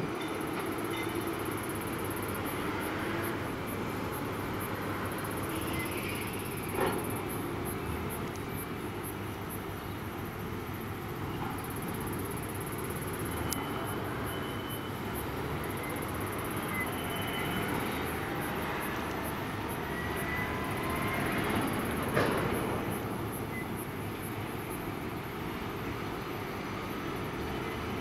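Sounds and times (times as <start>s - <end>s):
faint machinery whines: 0.0s - 28.0s.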